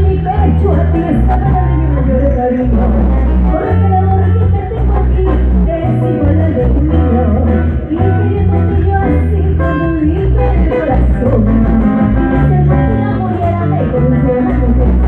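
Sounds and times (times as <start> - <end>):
live band music: 0.0 - 15.0
woman singing: 0.0 - 15.0.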